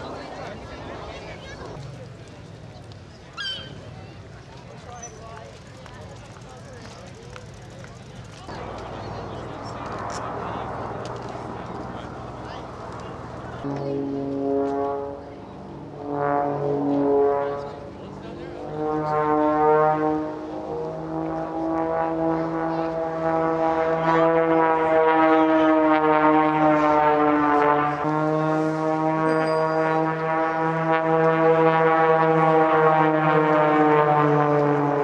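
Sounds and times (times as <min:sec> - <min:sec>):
propeller plane engine droning: 0:00.0 - 0:35.0.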